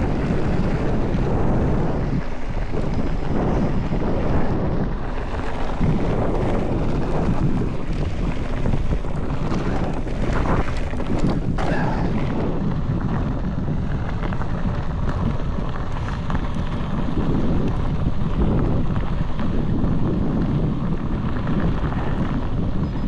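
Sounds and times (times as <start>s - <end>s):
bike knocks and rattles: 0.0s - 23.0s
tyres on rough dirt trail: 0.0s - 23.0s
wind buffeting microphone: 0.0s - 23.0s.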